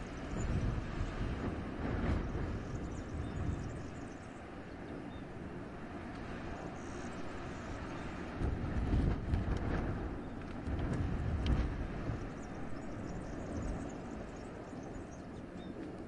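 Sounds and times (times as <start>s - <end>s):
wind gusting through forest: 0.0s - 16.0s.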